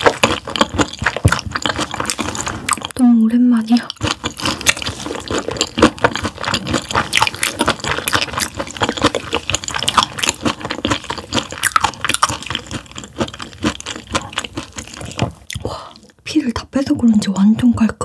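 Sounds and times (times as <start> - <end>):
wet chewing: 0.0 - 16.2.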